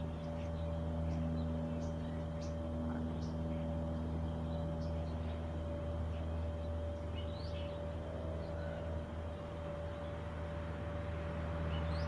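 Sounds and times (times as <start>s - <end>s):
steady low hum with held tone: 0.0s - 12.0s.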